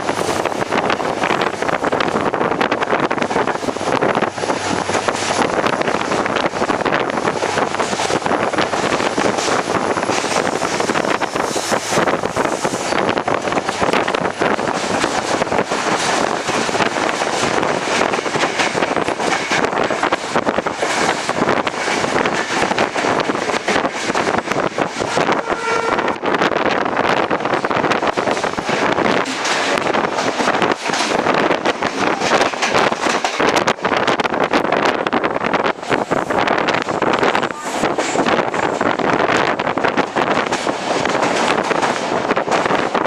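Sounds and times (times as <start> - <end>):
train wheel and track noise: 0.0 - 43.0
wind buffeting microphone: 0.0 - 43.0.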